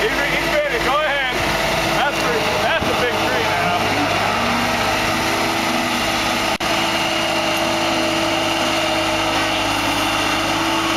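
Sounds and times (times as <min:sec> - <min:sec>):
diesel engine running steadily: 0:00.0 - 0:10.9.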